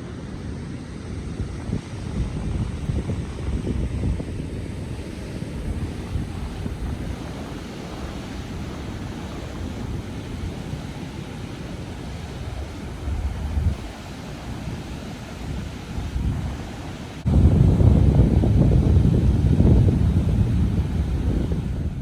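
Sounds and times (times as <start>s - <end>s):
wind buffeting microphone: 0.0s - 22.0s
surf breaking on beach: 1.7s - 22.0s.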